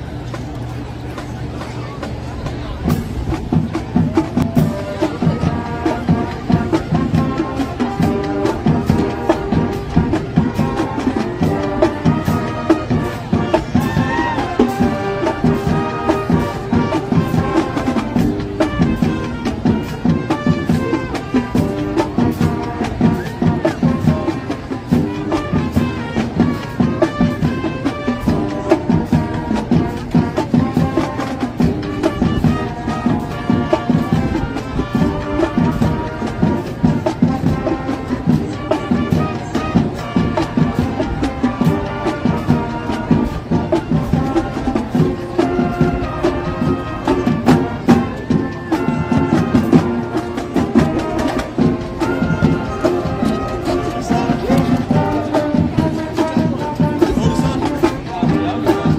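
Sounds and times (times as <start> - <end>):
marching band brass: 0.0 - 58.9
steady drum beat: 0.0 - 58.9.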